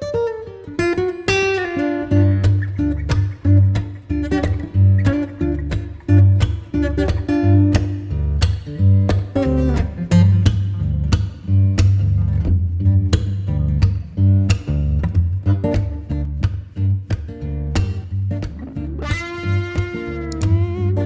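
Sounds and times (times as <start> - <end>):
plucked guitar music with beat: 0.0 - 21.0.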